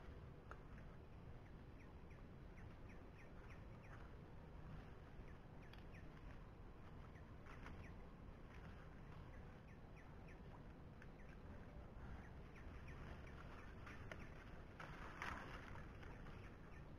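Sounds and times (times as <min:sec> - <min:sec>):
low steady rumble: 0:00.0 - 0:16.9.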